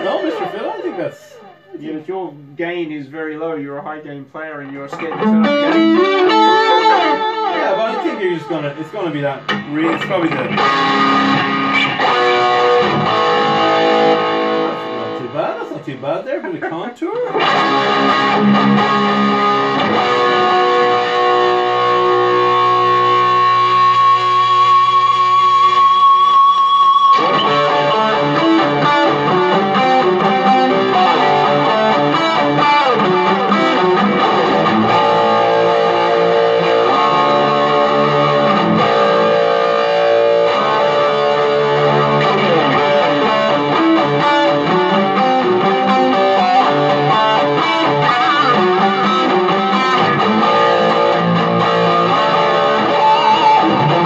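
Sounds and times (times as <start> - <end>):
electric guitar playing: 0.0 - 2.7, 4.6 - 54.0.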